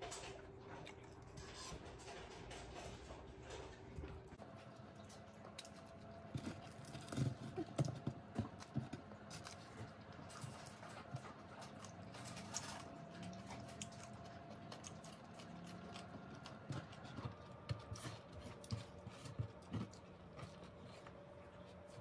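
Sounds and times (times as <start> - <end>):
person chewing and smacking: 4.0 - 22.0.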